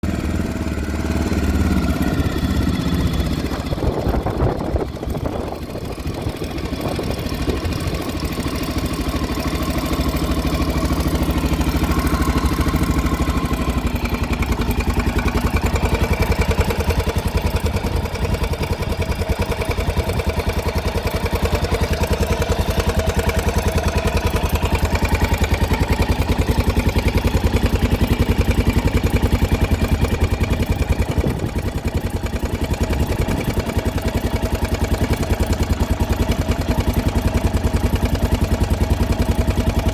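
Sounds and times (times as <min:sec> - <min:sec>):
motorcycle engine rattling: 0:00.0 - 0:39.9.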